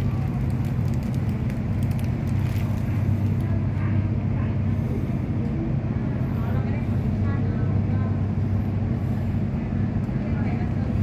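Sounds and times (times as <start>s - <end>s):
electric train hum: 0.0s - 11.0s.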